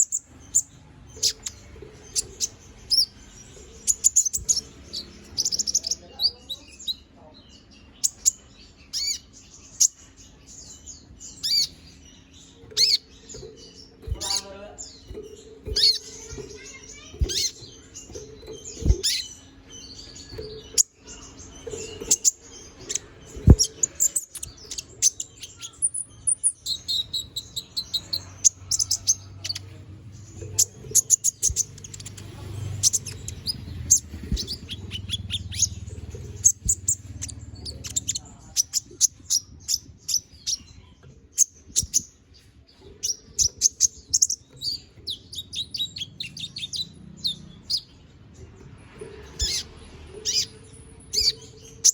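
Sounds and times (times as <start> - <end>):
sunbird high chirps and trills: 0.0 - 51.9.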